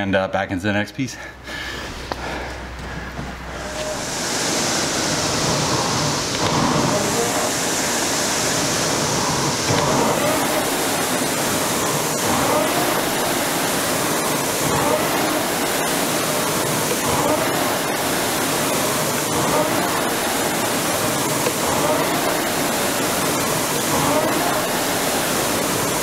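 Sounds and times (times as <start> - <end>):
steady rushing noise: 1.6 - 26.0.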